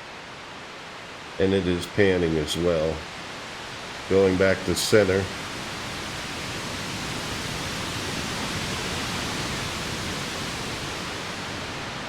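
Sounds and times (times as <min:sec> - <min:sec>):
synthesized ocean wave noise: 0:02.0 - 0:12.0.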